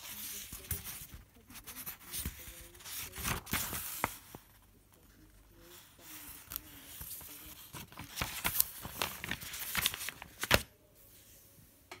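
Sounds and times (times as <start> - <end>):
paper pages rustling and flicking: 0.0 - 4.6, 5.7 - 10.7.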